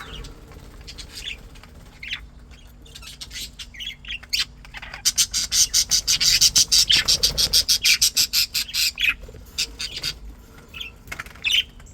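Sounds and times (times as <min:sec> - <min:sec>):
budgies chirping and squawking: 0:00.0 - 0:11.8.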